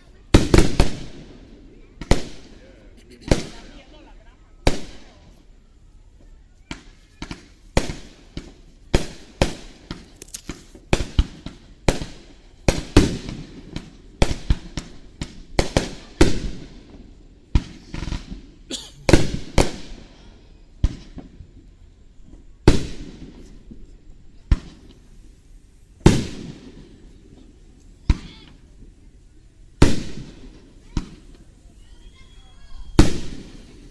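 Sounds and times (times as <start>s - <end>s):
fireworks bursting with bangs: 0.0s - 33.9s.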